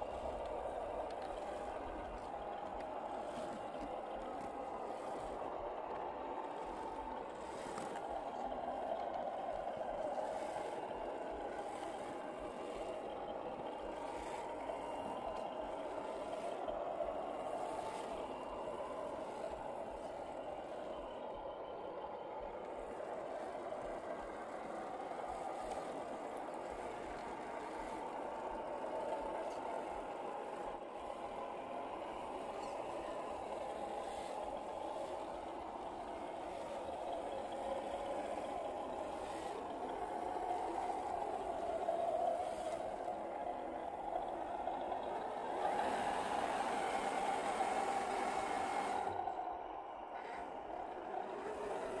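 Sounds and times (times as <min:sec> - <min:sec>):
faint clicks: 0:00.0 - 0:52.0
toy truck motors whining: 0:00.0 - 0:52.0.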